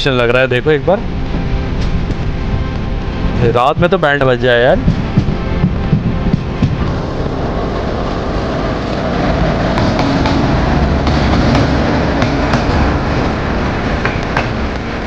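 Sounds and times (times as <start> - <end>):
train wheels roaring on rails: 0.0 - 15.0.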